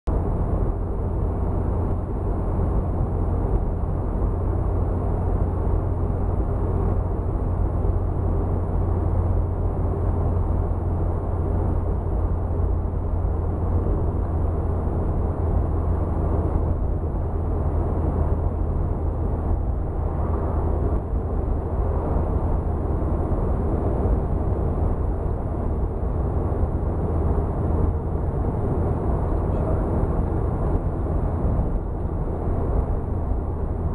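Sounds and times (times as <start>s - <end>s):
car interior engine drone: 0.0s - 33.9s
road noise: 0.1s - 33.9s.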